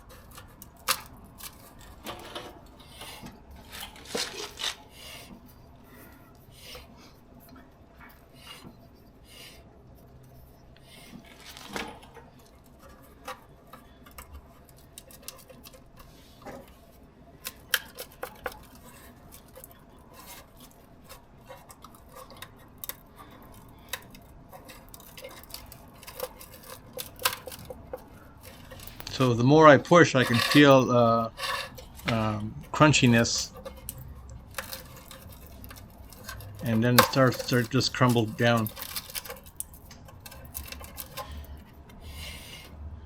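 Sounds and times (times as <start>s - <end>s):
metallic clicks and scrapes: 0.0s - 43.0s.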